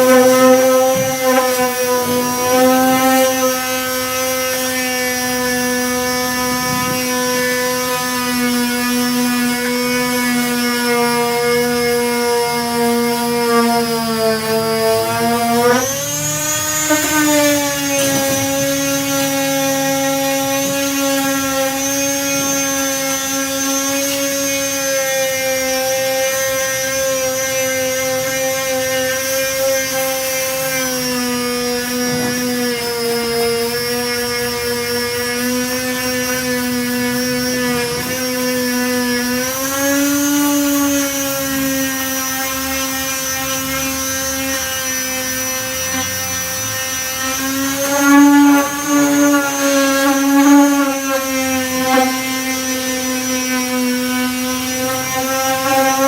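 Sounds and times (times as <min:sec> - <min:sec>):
disc sander motor whine: 0:00.0 - 0:56.0.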